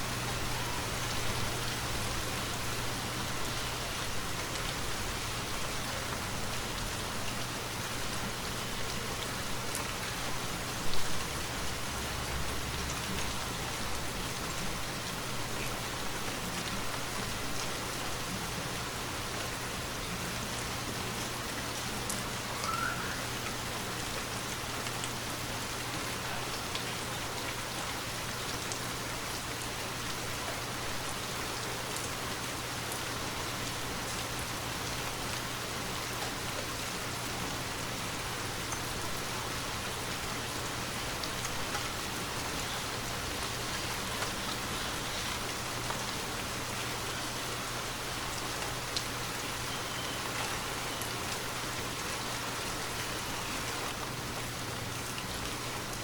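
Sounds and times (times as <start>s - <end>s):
rain pattering in forest: 0.0s - 56.0s.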